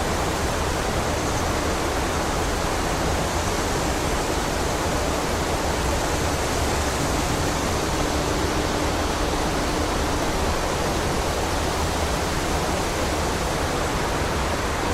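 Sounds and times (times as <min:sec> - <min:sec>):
strong wind through trees: 0:00.0 - 0:14.9.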